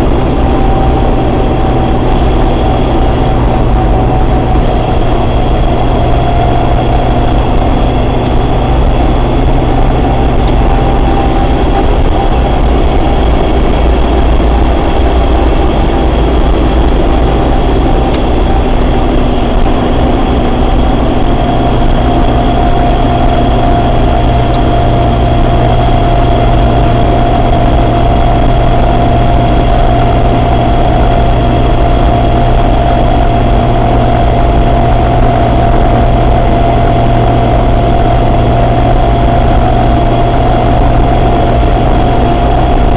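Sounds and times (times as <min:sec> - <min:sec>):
drivetrain engine running: 0:00.0 - 0:42.9
high whine: 0:00.0 - 0:42.9.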